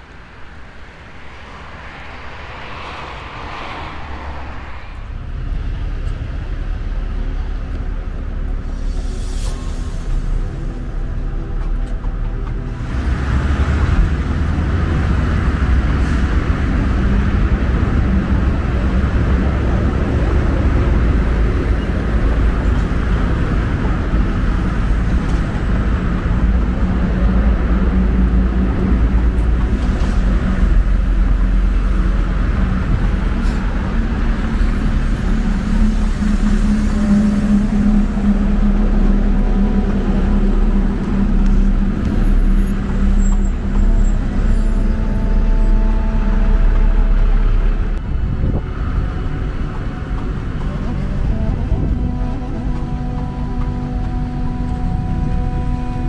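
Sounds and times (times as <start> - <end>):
heavy vehicle engine hum: 0.0 - 56.0
rumble of passing traffic: 0.0 - 56.0.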